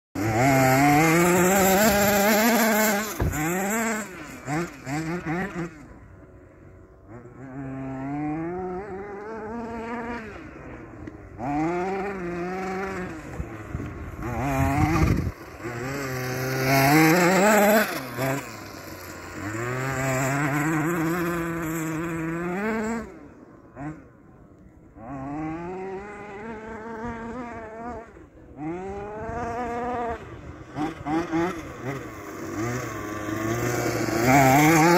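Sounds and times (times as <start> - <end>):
small two-stroke engine revving: 0.2 - 34.9.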